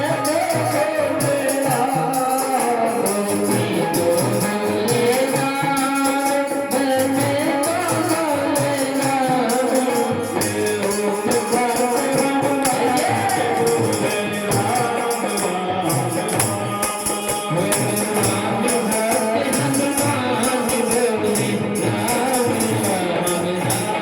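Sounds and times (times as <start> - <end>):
jingling hand percussion: 0.0 - 24.0
man singing: 0.0 - 24.0.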